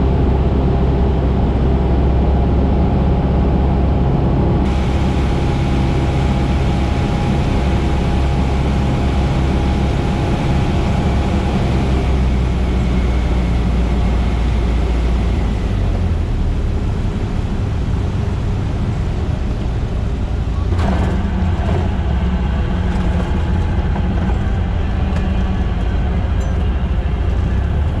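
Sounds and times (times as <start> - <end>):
piston aircraft engine running: 0.0 - 28.0.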